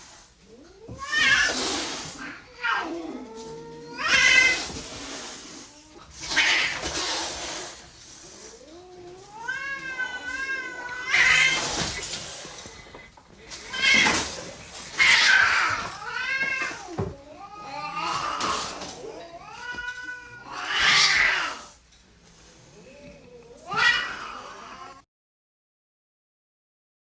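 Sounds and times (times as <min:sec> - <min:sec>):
cats yowling: 0:00.4 - 0:21.8, 0:22.8 - 0:25.0.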